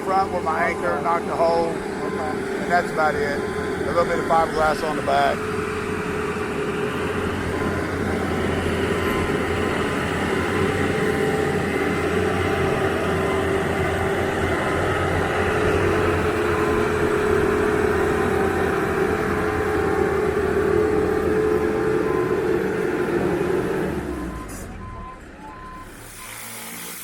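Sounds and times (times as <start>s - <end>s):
machinery low hum: 0.0s - 26.2s
steady tone: 0.0s - 26.2s.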